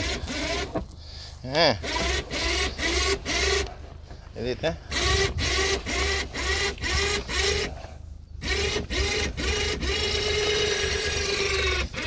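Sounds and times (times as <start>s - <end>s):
electric winch motor whine: 0.0s - 0.9s, 1.7s - 4.2s, 4.8s - 12.0s.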